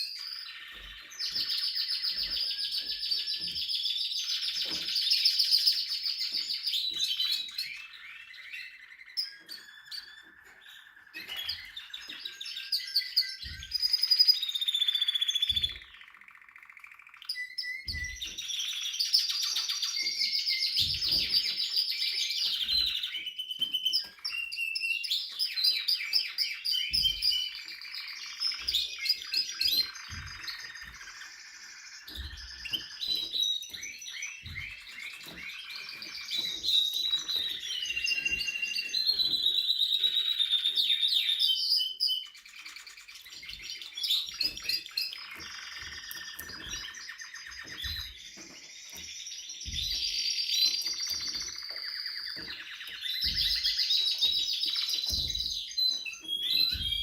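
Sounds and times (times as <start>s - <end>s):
canary singing trills and whistles: 0.0s - 57.0s.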